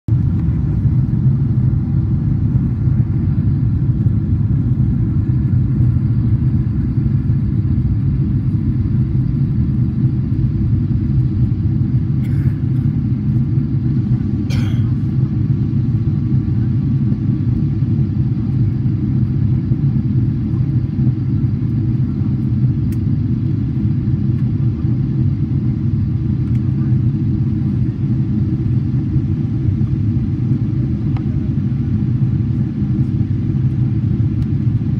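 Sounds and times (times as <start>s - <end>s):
low rumble of jet engines: 0.1s - 34.9s.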